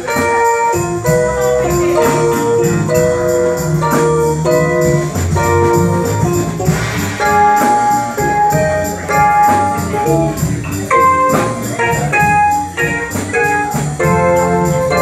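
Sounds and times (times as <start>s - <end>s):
held chords: 0.0s - 15.0s
live band music: 0.0s - 15.0s
percussion beat: 0.0s - 15.0s
steady bass line: 0.0s - 15.0s.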